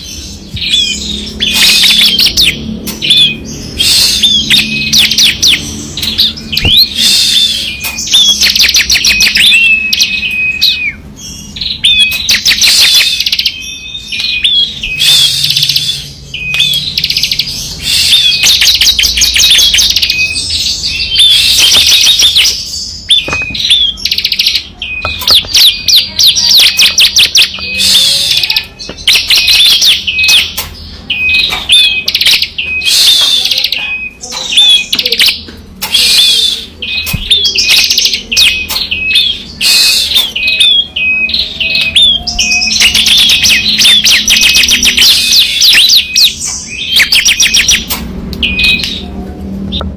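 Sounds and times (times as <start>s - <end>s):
bird singing rapid rattling trills: 0.0s - 49.1s.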